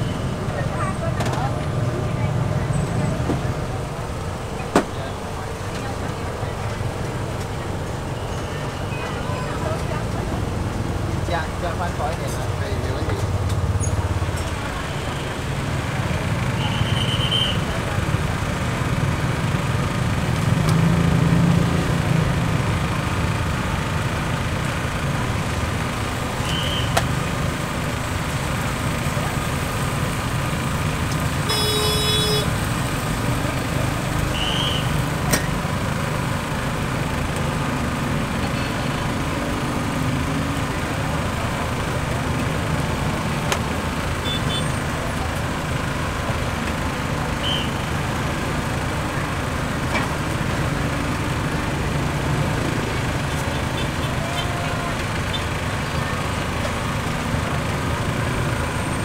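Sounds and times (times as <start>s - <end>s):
rumble of passing traffic: 0.0s - 59.0s.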